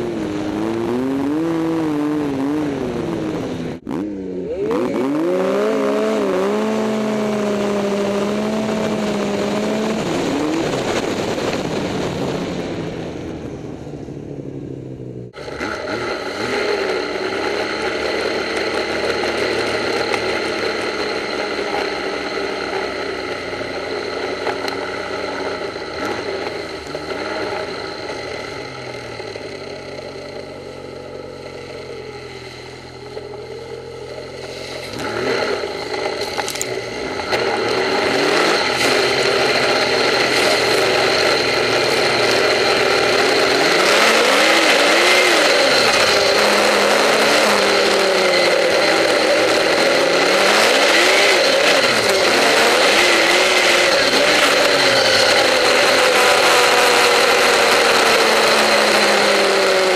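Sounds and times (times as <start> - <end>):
snowmobile engine revving: 0.0 - 13.5, 15.3 - 59.9
steady high whine: 0.0 - 59.9.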